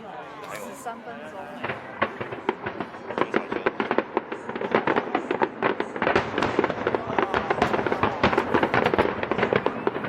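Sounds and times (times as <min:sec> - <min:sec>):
fireworks crackling bangs: 0:01.5 - 0:10.0.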